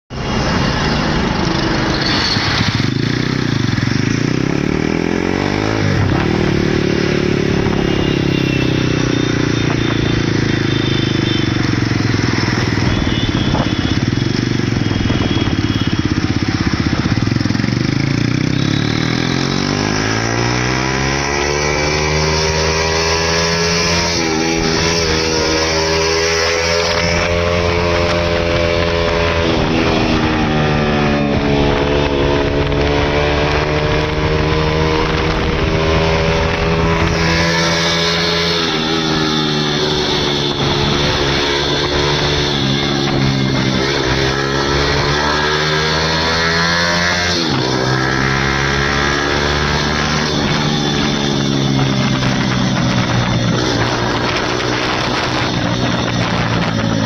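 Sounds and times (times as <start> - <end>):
motorcycle engine revving: 0.2 - 57.0.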